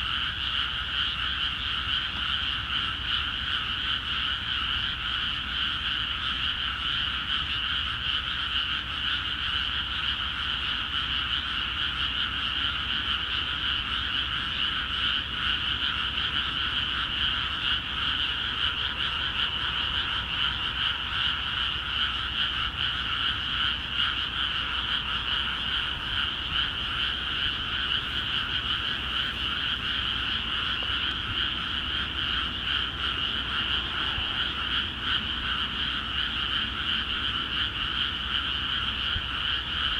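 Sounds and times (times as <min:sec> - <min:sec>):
frog chorus: 0:00.0 - 0:39.9.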